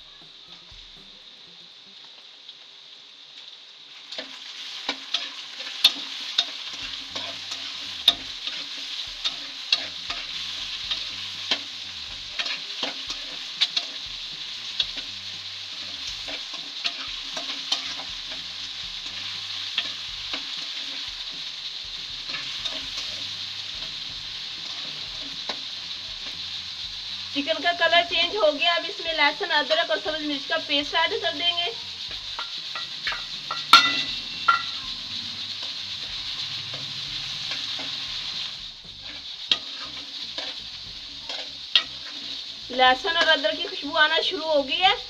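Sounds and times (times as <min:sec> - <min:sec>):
chicken sizzling in hot oil: 0:00.0 - 0:45.0
spatula scraping a pan: 0:04.1 - 0:27.4, 0:31.2 - 0:44.2.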